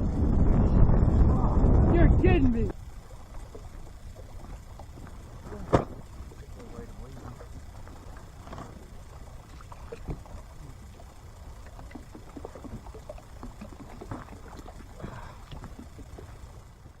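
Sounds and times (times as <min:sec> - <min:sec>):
wind rumble: 0:00.0 - 0:17.0
water splashes: 0:02.7 - 0:17.0.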